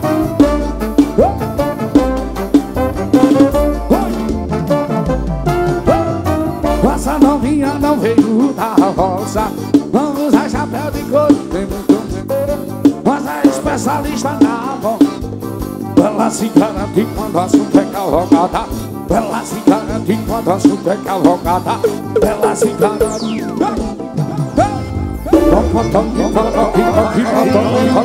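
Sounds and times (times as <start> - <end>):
live band dance music: 0.0 - 28.0.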